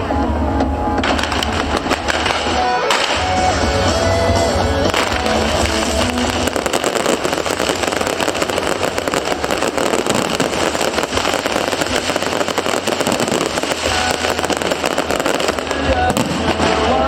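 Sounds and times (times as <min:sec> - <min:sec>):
fireworks crackling: 0:00.0 - 0:17.0
music: 0:00.0 - 0:17.0.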